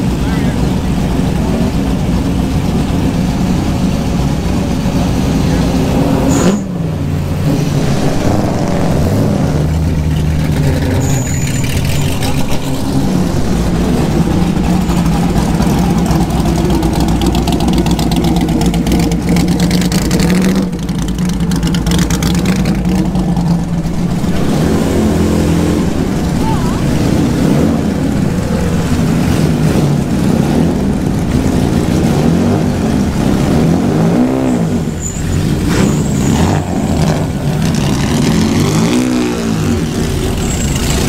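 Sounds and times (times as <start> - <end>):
another car engine: 0.0 - 41.0
car engines idling: 0.0 - 41.0
engine revving: 0.0 - 41.0.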